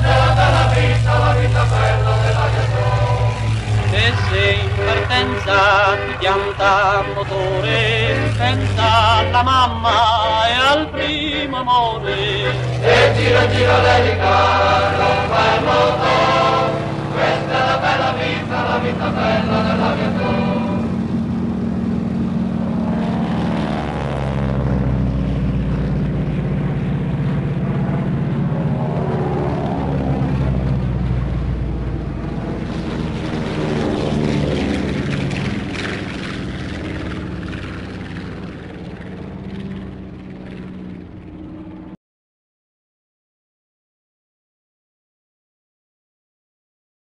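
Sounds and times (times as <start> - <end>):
propeller aircraft engine: 0.0 - 42.0.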